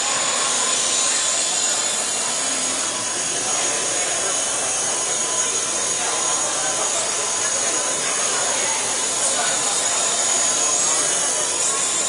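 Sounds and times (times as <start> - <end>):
toy helicopter rotor whirring: 0.0 - 12.0.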